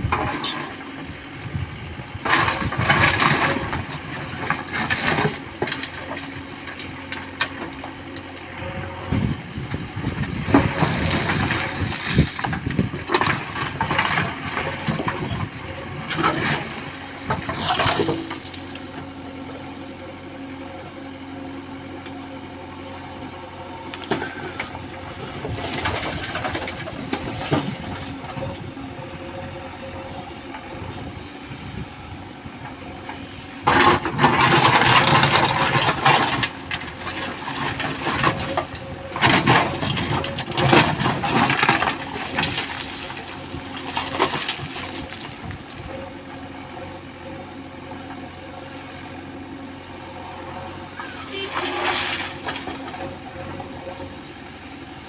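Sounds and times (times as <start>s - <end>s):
heavy machinery diesel engine running: 0.0s - 55.0s
loud machinery noise: 0.0s - 55.0s.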